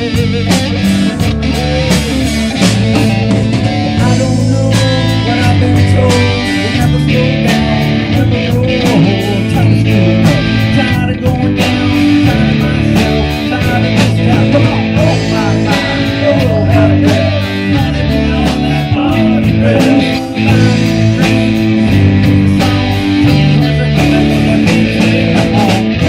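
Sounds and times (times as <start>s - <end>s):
live rock band playing: 0.0s - 26.0s
person singing: 0.0s - 26.0s.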